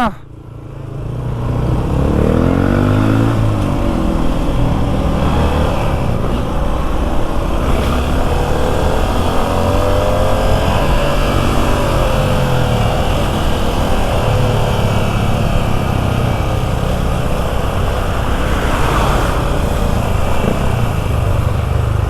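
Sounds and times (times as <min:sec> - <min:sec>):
motorcycle engine accelerating: 0:00.7 - 0:22.0.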